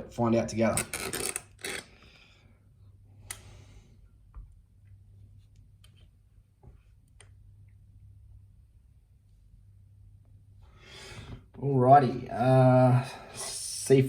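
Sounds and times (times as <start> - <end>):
steady low hum: 1.9 - 14.0.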